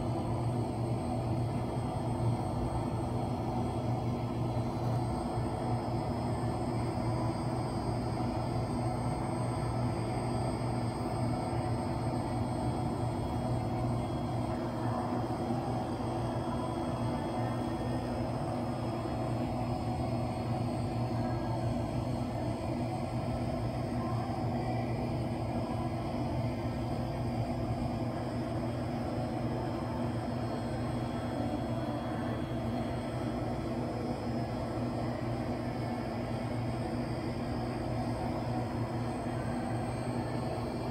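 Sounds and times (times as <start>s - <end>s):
faint high hums: 0.0s - 40.9s
faint steady tones: 0.0s - 40.9s
low rumble of pool hall: 0.0s - 40.9s.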